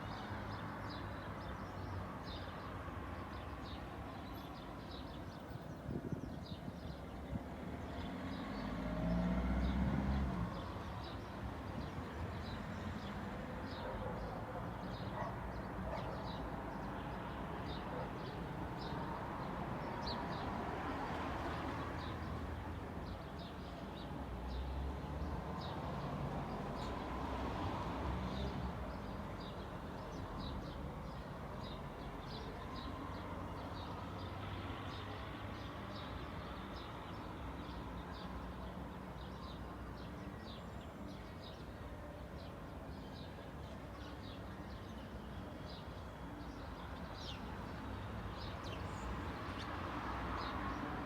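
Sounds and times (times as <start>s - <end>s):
distant car traffic hum: 7.2s - 41.6s, 43.6s - 51.0s.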